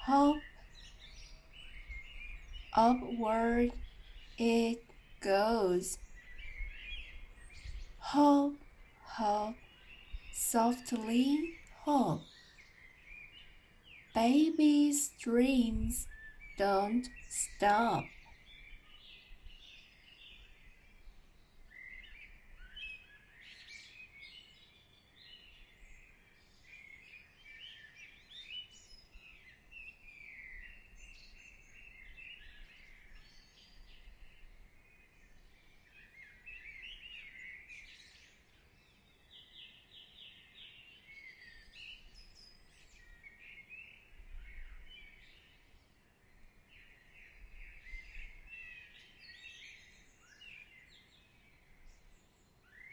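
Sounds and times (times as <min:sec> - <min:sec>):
faint birdsong: 0:00.0 - 0:14.2, 0:14.9 - 0:52.9.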